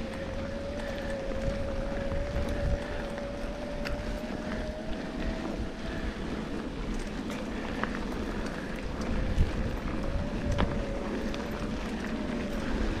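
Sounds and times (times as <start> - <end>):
electric motor whine: 0.0 - 13.0
gravel clicks: 0.0 - 13.0
wind on microphone: 0.0 - 13.0.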